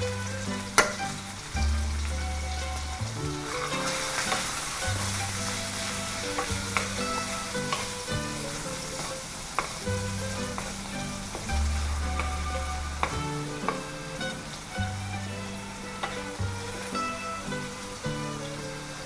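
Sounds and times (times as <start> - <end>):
meat sizzling in a wok: 0.0 - 19.0
wooden spatula scraping a pan: 0.0 - 19.0.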